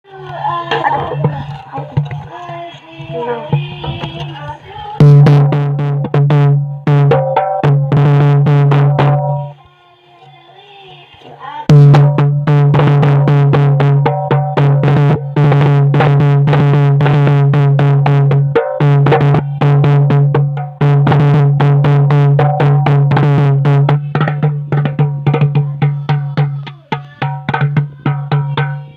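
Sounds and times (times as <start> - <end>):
goblet drum rhythm: 0.5 - 9.6, 11.7 - 28.9.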